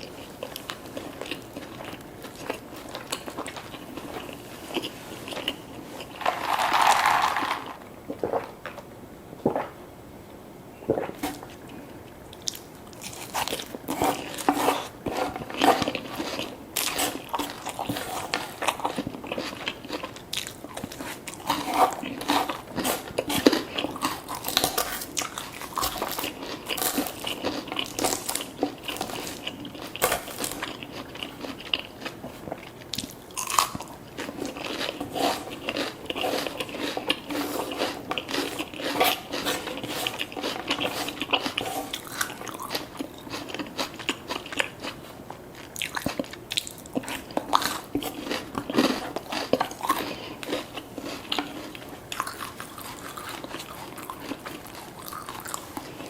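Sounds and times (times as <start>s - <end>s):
person chewing crunchy food: 0.0s - 8.8s, 9.4s - 9.8s, 10.9s - 56.0s.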